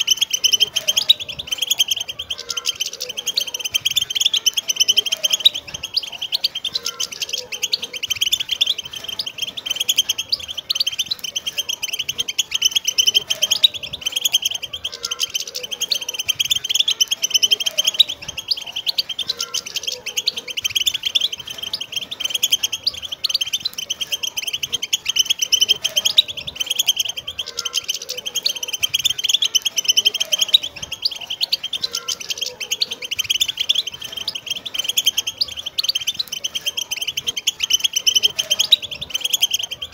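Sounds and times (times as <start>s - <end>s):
flock of finches singing: 0.0s - 39.9s.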